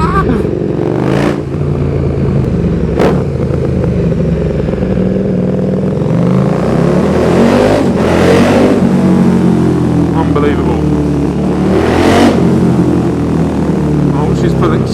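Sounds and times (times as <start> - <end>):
loud motorcycle engine: 0.0 - 14.9
sharp exhaust crack: 0.0 - 14.9.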